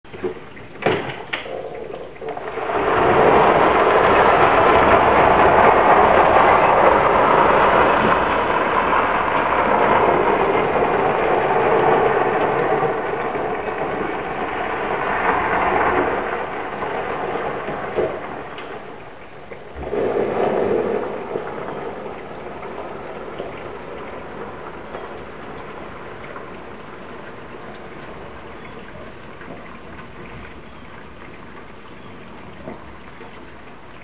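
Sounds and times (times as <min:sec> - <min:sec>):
golf cart rolling: 0:00.1 - 0:34.0.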